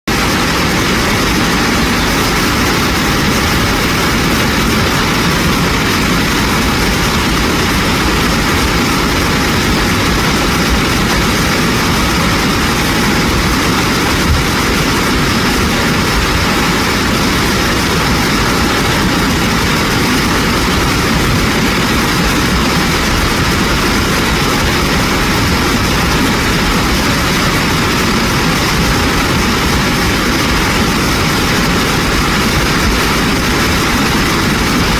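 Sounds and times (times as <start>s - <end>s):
mountain stream rushing: 0.1s - 34.9s.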